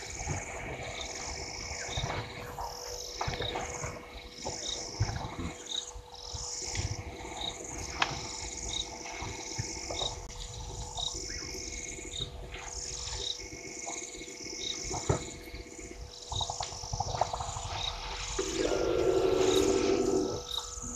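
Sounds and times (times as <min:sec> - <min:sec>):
faint hum: 0:00.0 - 0:20.9
frogs and insects trilling: 0:00.0 - 0:20.9.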